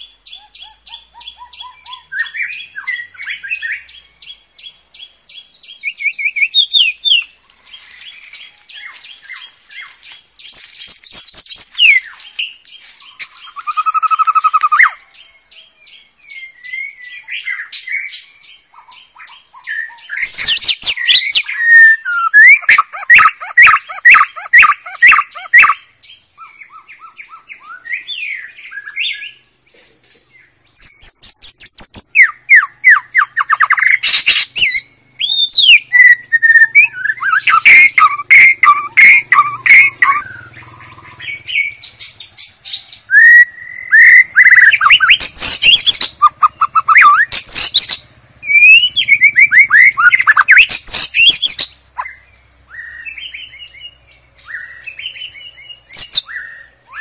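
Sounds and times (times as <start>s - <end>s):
bird singing whistles and trills: 0.0s - 29.4s, 30.4s - 57.0s.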